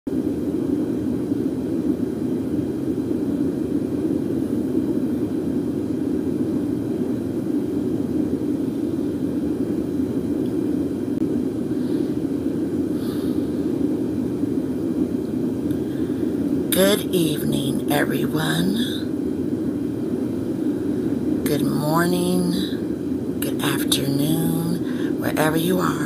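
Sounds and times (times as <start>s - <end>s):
low droning noise: 0.1s - 26.0s.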